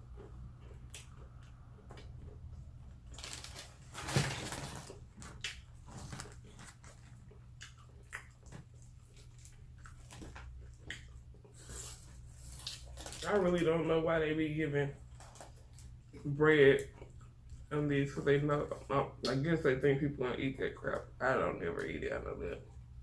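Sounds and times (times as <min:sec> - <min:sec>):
chewing and crunching fried food: 0:00.0 - 0:23.0
steady low hum: 0:00.0 - 0:23.0.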